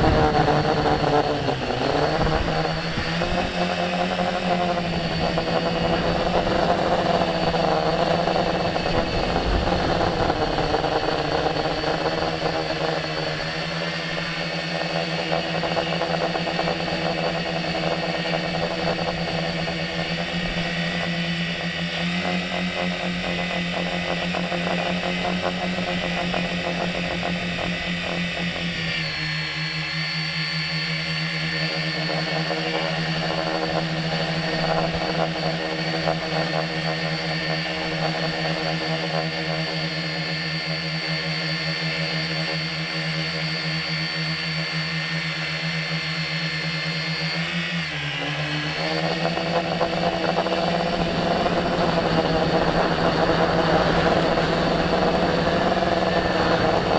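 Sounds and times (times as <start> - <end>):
drone propellers whirring: 0.0 - 56.9.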